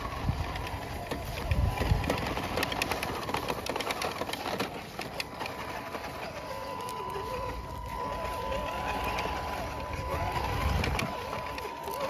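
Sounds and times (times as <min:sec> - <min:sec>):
crackling clicks over dry leaves: 0:00.0 - 0:12.0
small electric motor whirring: 0:00.0 - 0:12.0.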